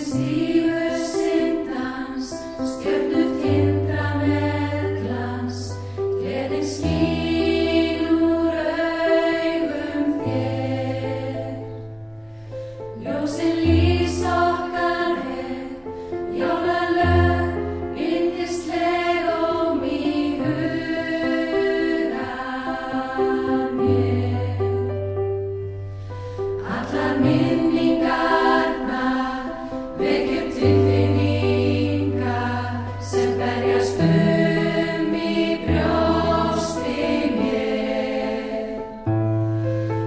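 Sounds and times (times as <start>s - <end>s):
women's choir singing: 0.0s - 11.9s, 12.9s - 25.1s, 26.5s - 39.2s
piano accompaniment: 0.0s - 40.0s.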